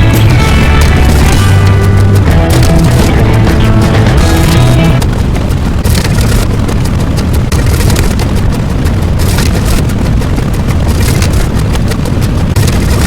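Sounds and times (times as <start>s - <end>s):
distorted bass-heavy sound effect: 0.0s - 13.0s.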